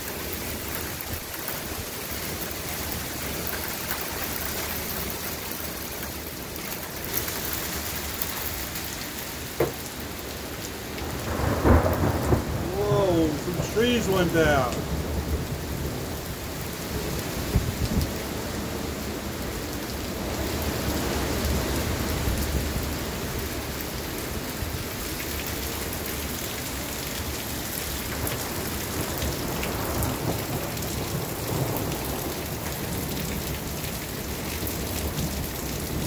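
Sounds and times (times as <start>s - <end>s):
heavy rain: 0.0s - 36.0s
storm wind gusting through trees: 0.0s - 36.0s.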